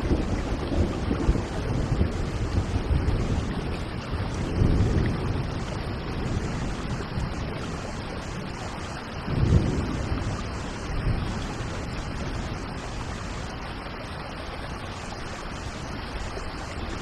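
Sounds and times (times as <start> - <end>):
low thunder rumbles: 0.0 - 13.8
steady rain: 0.0 - 17.0.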